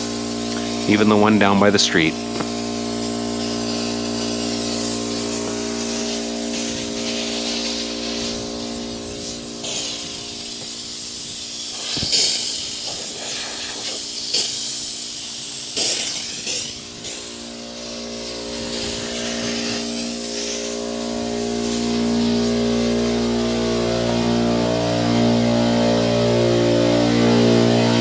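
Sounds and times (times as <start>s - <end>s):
air compressor humming: 0.0s - 28.0s
compressed air hissing from sprinklers: 0.0s - 28.0s.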